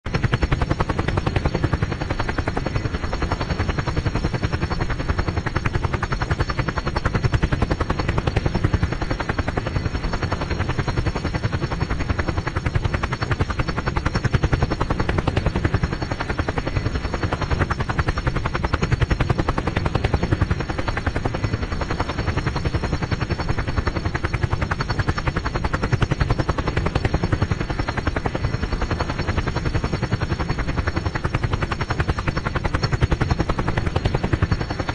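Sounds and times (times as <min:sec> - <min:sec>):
helicopter rotor chopping: 0:00.1 - 0:34.9.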